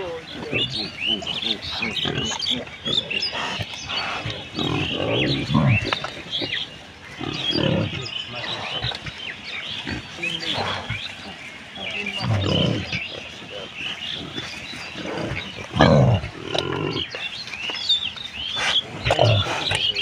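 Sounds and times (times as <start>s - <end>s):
pigs grunting: 0.0s - 17.4s, 18.4s - 20.0s.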